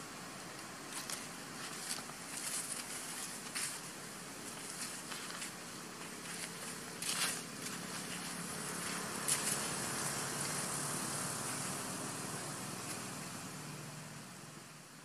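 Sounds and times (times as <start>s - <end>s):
vehicle engine running: 0.9s - 15.0s.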